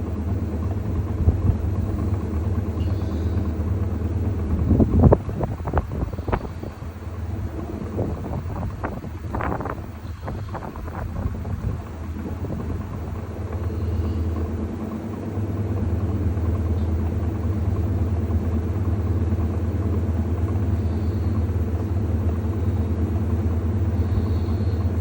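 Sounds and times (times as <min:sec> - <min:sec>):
washing machine humming: 0:00.0 - 0:25.0.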